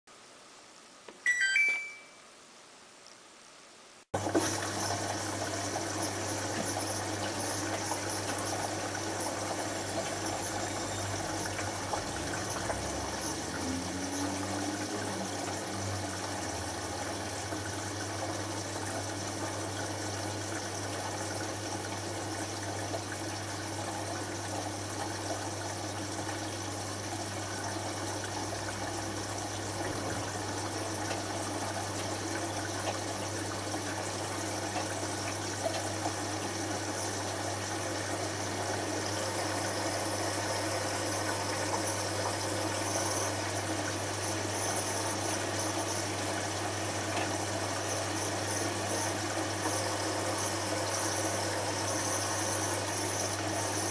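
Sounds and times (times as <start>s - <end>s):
water rushing into washing machine: 4.2s - 53.9s.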